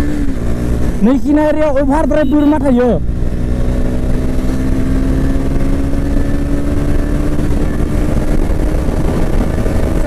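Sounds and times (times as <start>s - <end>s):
motorcycle engine cruising: 0.0s - 10.0s
wind rushing over microphone: 0.0s - 10.0s.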